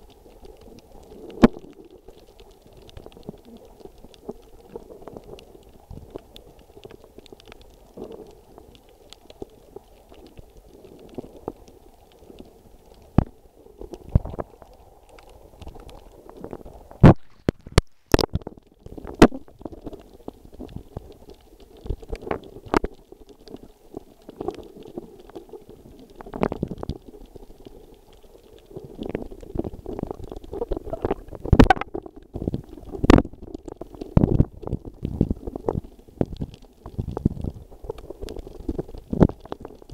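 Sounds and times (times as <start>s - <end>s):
muffled underwater rumble and sloshing: 0.0s - 39.9s.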